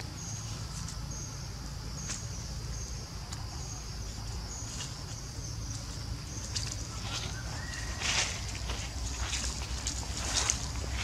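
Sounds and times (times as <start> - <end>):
insects buzzing: 0.0 - 11.0
steady low rumble: 0.0 - 11.0.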